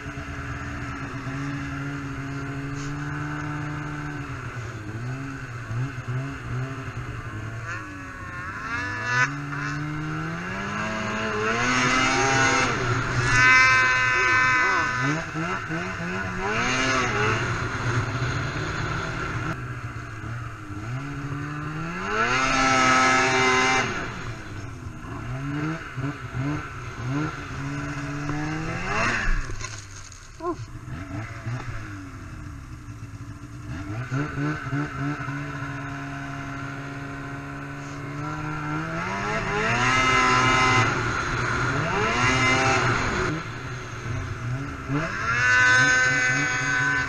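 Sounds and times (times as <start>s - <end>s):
snowmobile engine revving: 0.0s - 47.0s.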